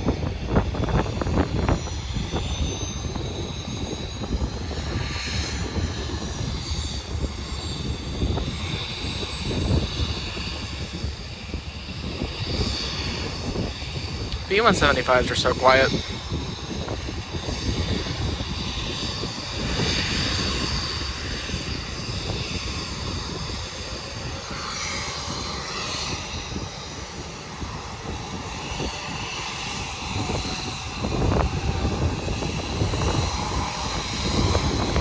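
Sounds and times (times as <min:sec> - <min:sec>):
jet engines idling whine: 0:00.0 - 0:35.0
wind rumble on microphone: 0:00.0 - 0:35.0.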